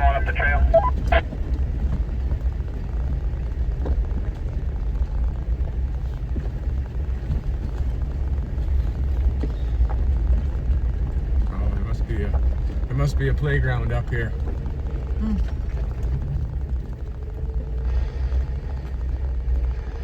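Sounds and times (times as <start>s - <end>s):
vehicle engine low rumble: 0.0s - 20.0s.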